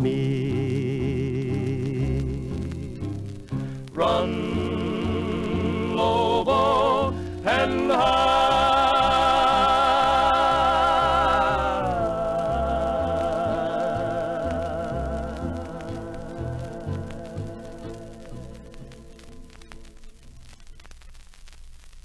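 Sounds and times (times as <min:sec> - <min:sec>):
voices singing in harmony: 0:00.0 - 0:03.1, 0:03.9 - 0:20.0
bass line: 0:00.0 - 0:20.8.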